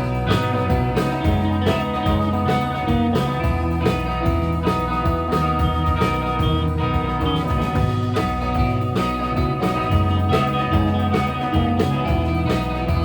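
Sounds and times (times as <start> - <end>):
electric guitar: 0.0 - 13.0
live rock band playing: 0.0 - 13.0.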